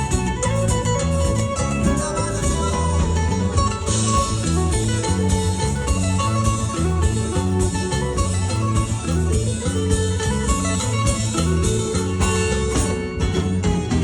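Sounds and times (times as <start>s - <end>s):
bass: 0.0s - 14.0s
plucked guitar melody: 0.0s - 14.0s
steady percussion beat: 0.0s - 14.0s.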